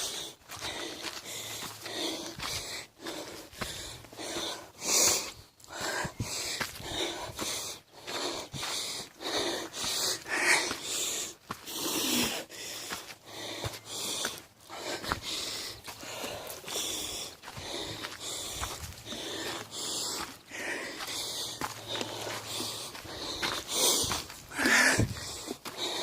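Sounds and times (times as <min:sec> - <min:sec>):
person breathing heavily: 0:00.0 - 0:26.0.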